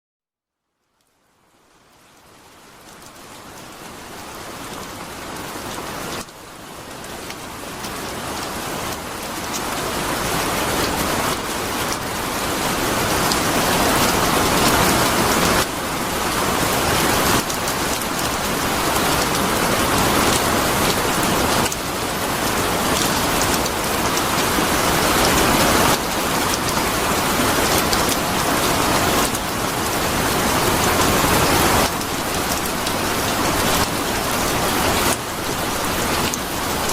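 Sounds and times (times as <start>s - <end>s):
steady rain falling: 0.6s - 36.9s.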